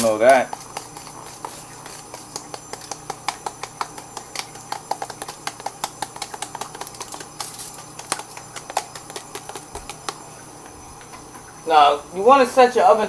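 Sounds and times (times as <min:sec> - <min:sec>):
seasoning shaker rattling: 0:00.0 - 0:11.7.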